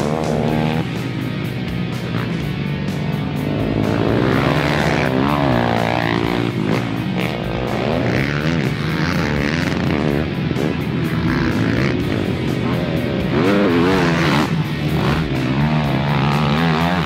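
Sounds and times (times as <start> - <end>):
background music: 0.0 - 17.0
quad engines revving: 0.0 - 17.0.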